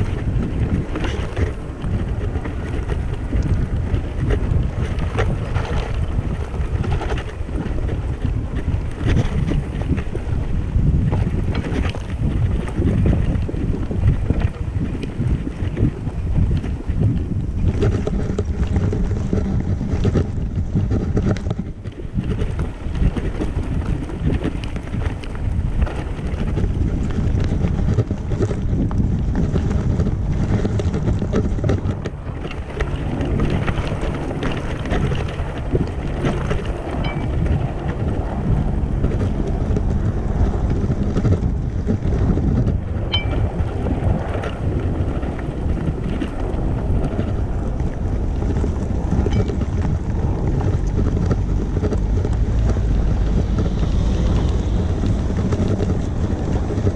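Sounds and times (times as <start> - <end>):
wheelchair rumbling over grass: 0.0 - 56.9
wind buffeting microphone: 0.0 - 56.9.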